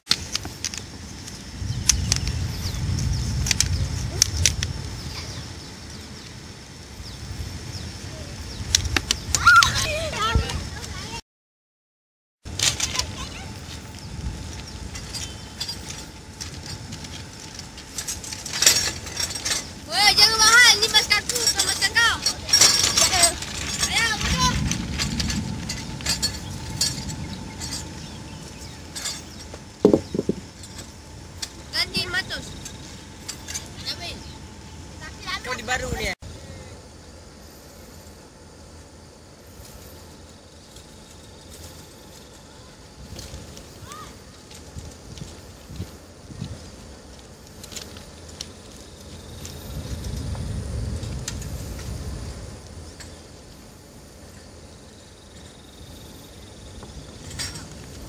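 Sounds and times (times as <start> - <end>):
metallic clicks and clinks of bicycles: 0.1 - 7.7, 8.4 - 11.1, 12.5 - 36.2, 37.4 - 58.0
wind buffeting microphone: 0.2 - 11.2, 12.5 - 36.9, 40.6 - 58.0.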